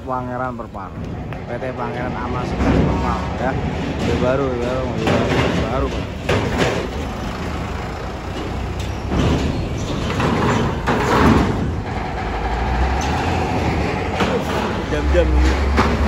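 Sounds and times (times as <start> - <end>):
heavy vehicle engines: 0.0 - 16.0
road noise: 0.0 - 16.0.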